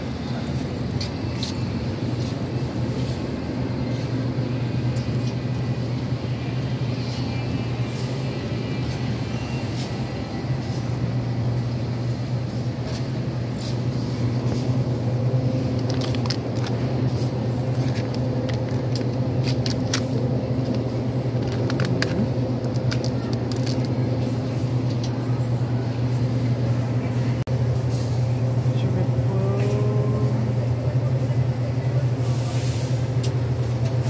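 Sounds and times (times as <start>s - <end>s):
supermarket background hum: 0.0s - 34.0s.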